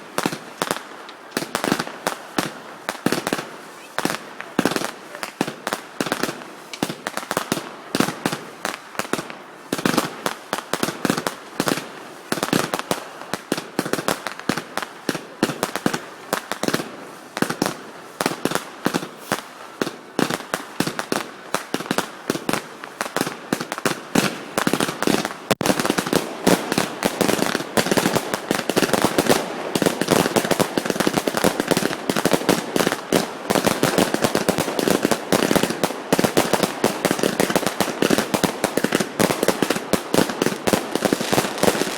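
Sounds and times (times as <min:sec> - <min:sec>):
fireworks banging: 0:00.0 - 0:10.2, 0:18.3 - 0:41.9.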